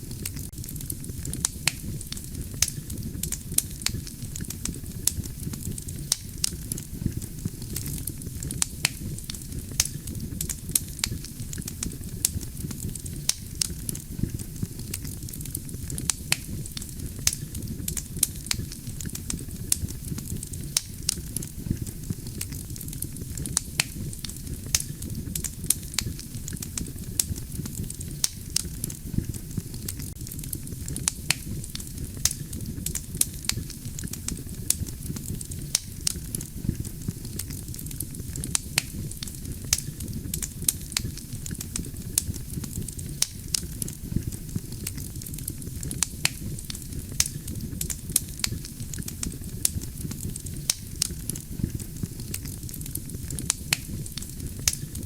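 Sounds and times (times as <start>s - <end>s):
campfire flames rumbling: 0.0s - 55.0s
logs crackling and popping: 0.0s - 55.0s.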